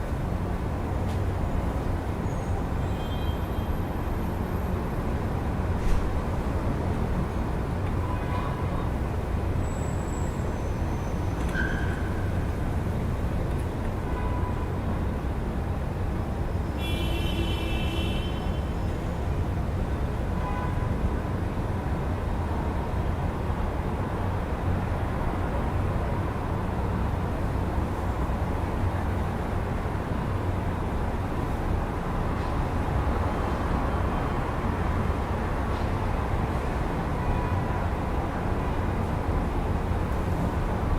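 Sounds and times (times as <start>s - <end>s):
city traffic rumble: 0.0s - 40.9s.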